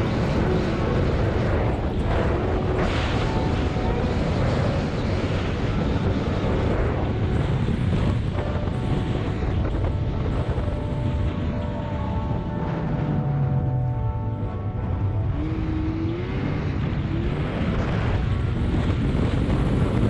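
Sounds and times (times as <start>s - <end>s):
snowmobile engine and track: 0.0s - 20.0s
wind buffeting microphone: 0.0s - 20.0s.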